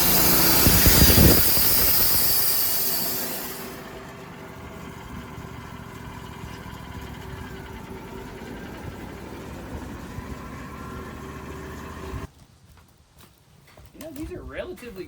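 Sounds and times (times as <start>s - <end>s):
sawmill engine running: 0.0s - 12.3s.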